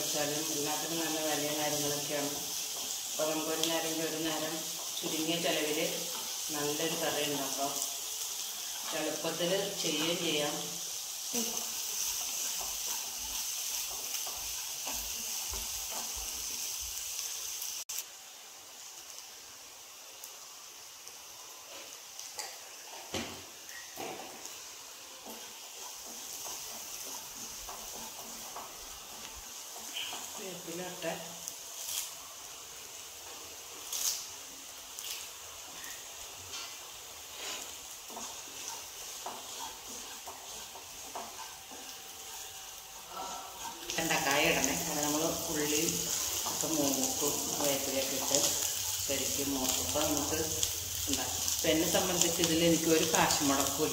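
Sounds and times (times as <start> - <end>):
wooden spatula stirring in pan: 0.0 - 17.9, 21.6 - 53.9
onions sizzling in oil: 0.0 - 53.9.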